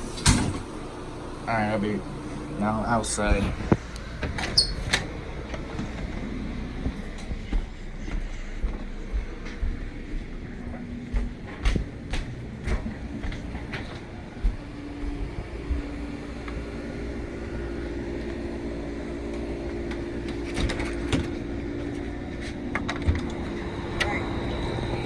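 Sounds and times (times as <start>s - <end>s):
window air conditioner humming: 0.0s - 25.0s.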